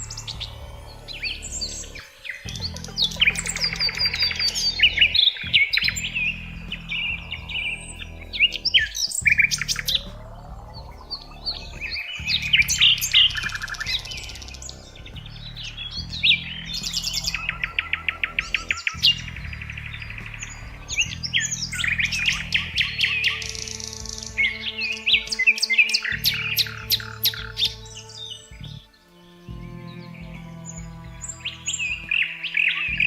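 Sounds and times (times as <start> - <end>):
rapid bird trills: 0.0 - 33.0
songbirds chirping: 0.0 - 33.0
steady low background noise: 0.0 - 33.0.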